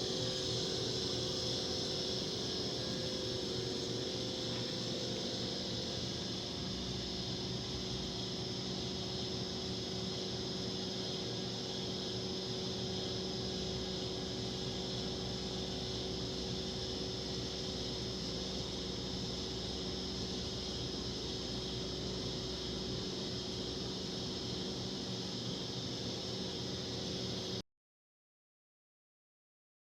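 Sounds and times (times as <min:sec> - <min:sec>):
machine hum with hiss: 0:00.0 - 0:27.6.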